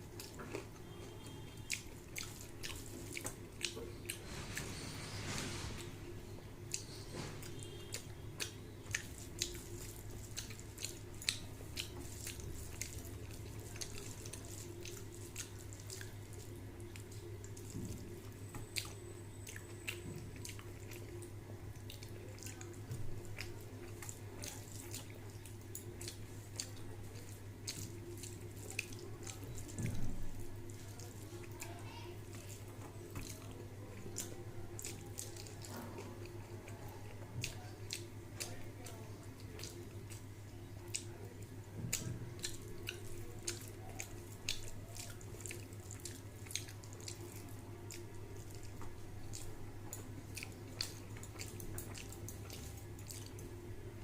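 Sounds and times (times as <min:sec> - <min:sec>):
person chewing food: 0:00.0 - 0:04.7, 0:06.6 - 0:54.0.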